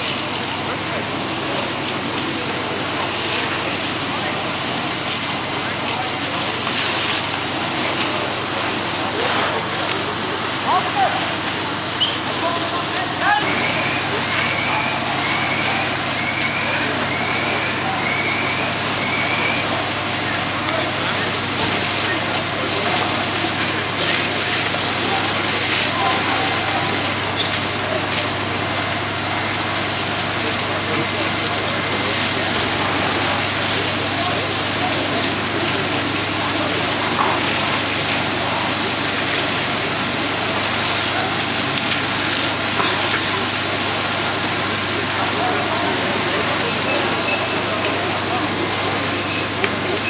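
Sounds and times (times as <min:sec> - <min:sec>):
fire engines humming: 0:00.0 - 0:50.0
fire hose water jets hissing: 0:00.0 - 0:50.0
house fire burning: 0:00.0 - 0:50.0.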